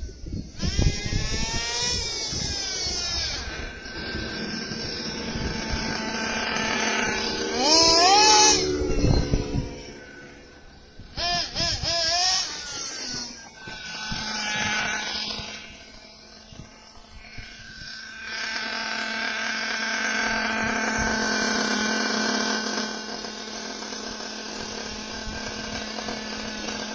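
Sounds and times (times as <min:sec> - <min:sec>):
small rc car motor whining: 0:00.0 - 0:26.9.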